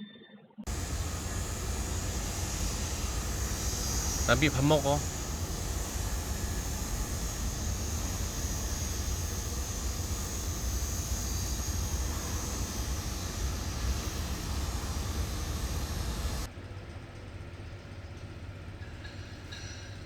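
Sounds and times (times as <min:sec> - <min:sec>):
low rumble with hiss: 0:00.7 - 0:17.5.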